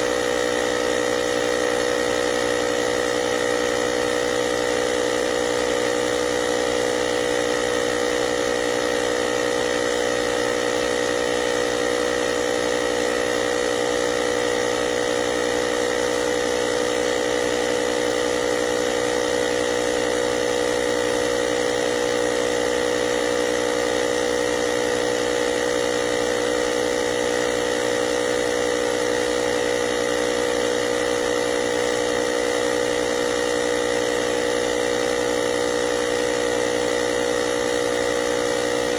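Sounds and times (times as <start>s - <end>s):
air compressor motor humming: 0.0s - 38.9s.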